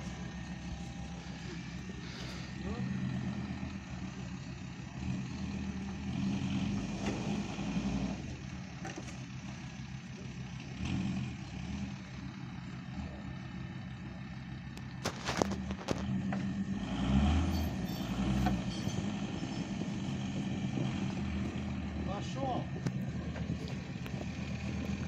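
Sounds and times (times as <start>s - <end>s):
vehicle engine under load: 0.0s - 25.0s.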